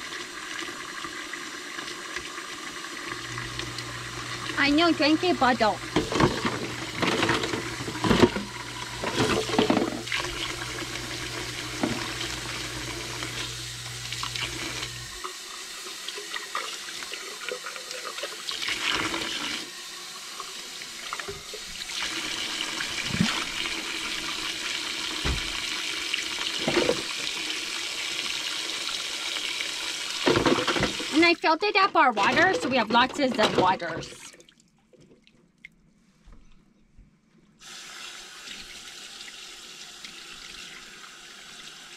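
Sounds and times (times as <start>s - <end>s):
faucet running into sink: 0.0s - 31.4s, 37.6s - 41.9s.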